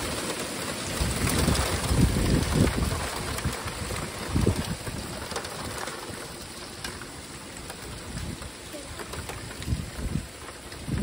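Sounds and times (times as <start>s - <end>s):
icy rain hissing: 0.0s - 11.0s.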